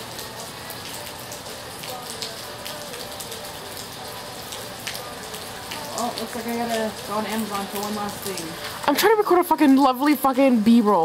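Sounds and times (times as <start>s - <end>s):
raindrops ticking close by: 0.0s - 11.0s
steady rain falling: 0.0s - 11.0s.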